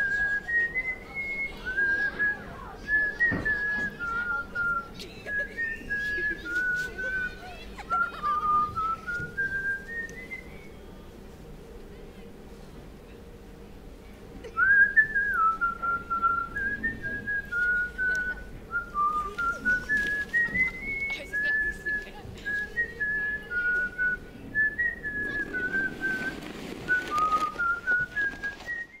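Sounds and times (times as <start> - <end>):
person whistling a tune: 0.0 - 7.4, 8.0 - 10.7, 14.5 - 29.0.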